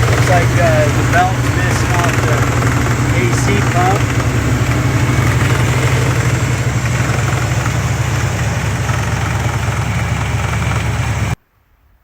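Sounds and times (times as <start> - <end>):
car engine idling roughly: 0.0 - 11.4.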